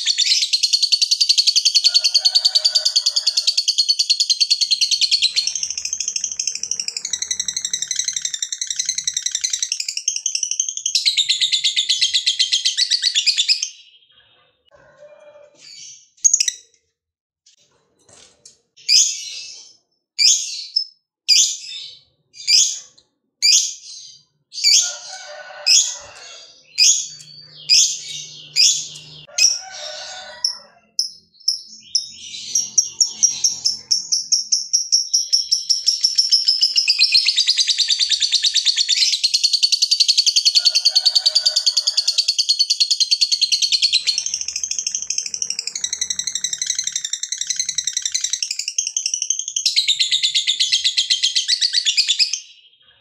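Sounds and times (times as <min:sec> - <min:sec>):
bird chattering trill and chirps: 0:00.0 - 0:14.7, 0:20.2 - 0:40.9, 0:41.5 - 0:53.0.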